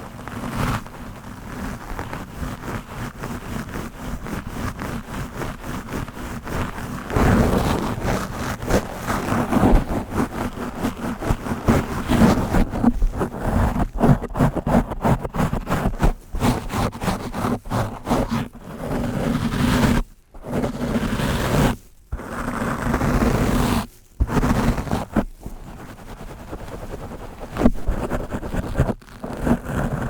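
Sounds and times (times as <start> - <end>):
brush scraping over microphone: 0.0 - 30.0.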